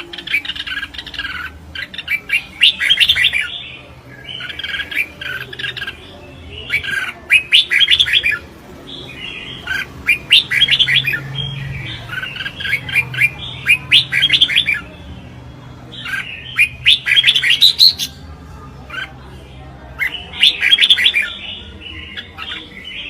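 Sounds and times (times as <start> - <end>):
bulbul chirping song: 0.0 - 23.0.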